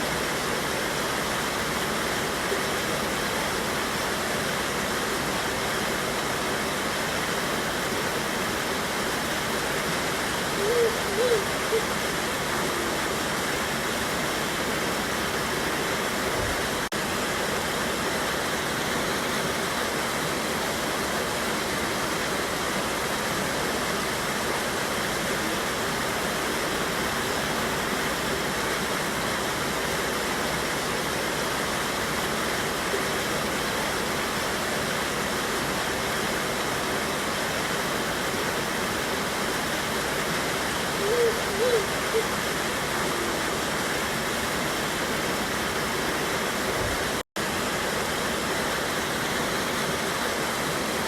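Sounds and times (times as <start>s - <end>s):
water rushing over waterfall: 0.0s - 51.0s.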